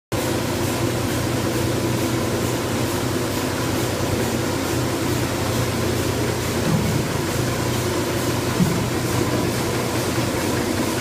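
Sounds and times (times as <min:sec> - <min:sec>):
production line machines humming: 0:00.2 - 0:11.0
steady low tones: 0:01.2 - 0:10.6.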